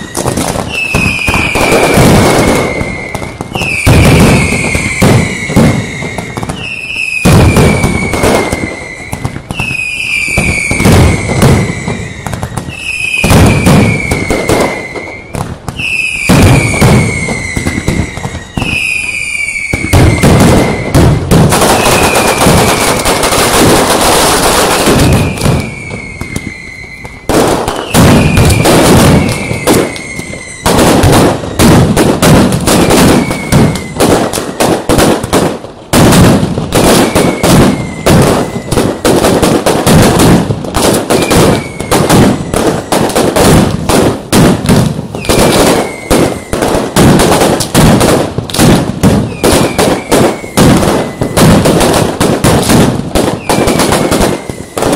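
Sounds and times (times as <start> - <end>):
firecrackers rattling: 0.0 - 54.9
whistling fireworks: 0.0 - 54.9.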